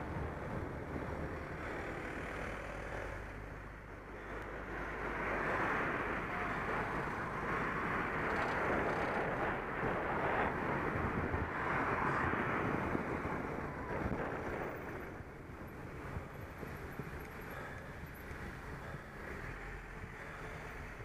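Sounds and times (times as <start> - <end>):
road traffic: 0.0 - 21.0
wind rushing over microphone: 0.0 - 21.0.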